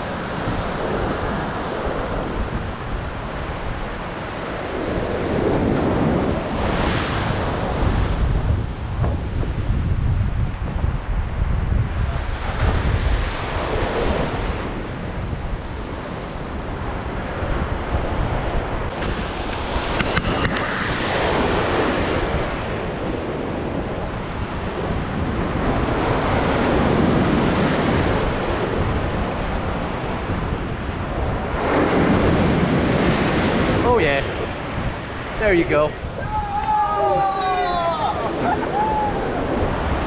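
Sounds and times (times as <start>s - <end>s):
ocean surf breaking against pier: 0.0s - 9.8s, 10.4s - 40.0s
wind buffeting microphone: 0.0s - 40.0s.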